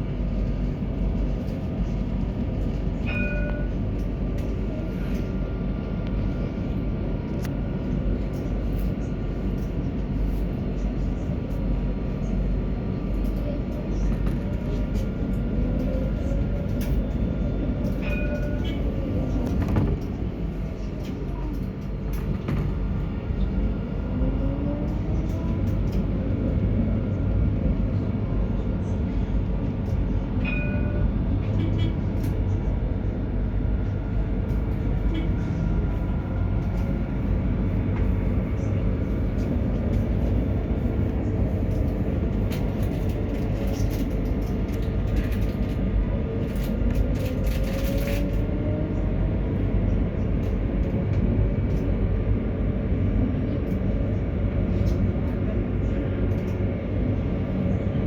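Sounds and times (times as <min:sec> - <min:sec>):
tram rumbling on rails: 0:00.0 - 0:58.0.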